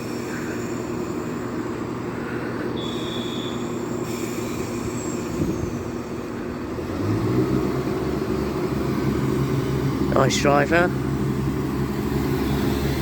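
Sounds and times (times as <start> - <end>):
train diesel engines running: 0.0 - 13.0.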